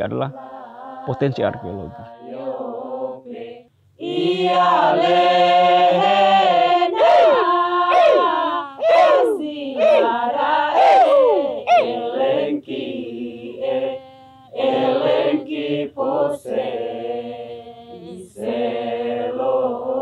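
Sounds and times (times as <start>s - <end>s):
group singing a chant: 0.2s - 20.0s.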